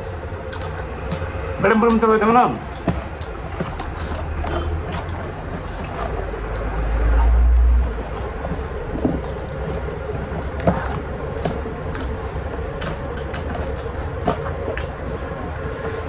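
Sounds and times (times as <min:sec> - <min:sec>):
people eating by hand: 0:00.0 - 0:16.0.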